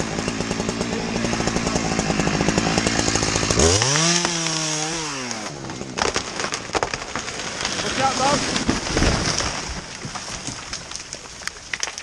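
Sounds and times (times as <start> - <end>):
chainsaw engine revving: 0.0 - 9.7.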